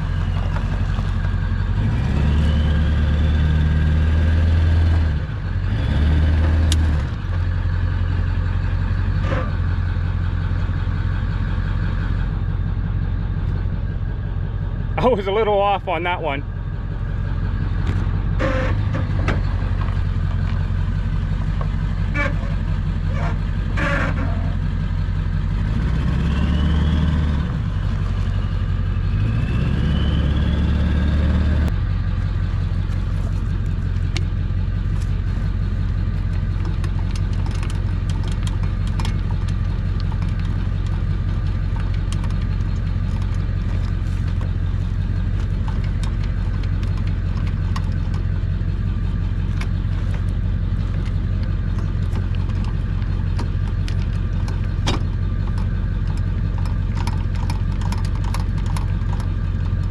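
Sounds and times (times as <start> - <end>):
pickup truck engine idling and revving: 0.0 - 59.9.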